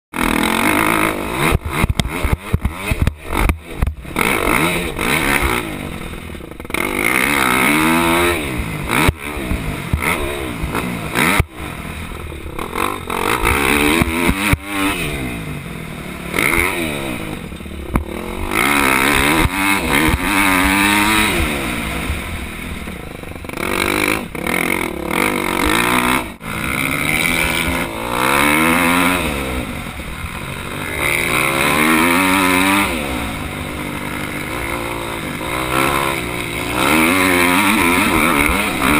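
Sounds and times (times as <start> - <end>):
motocross bike engine revving: 0.1 - 38.9.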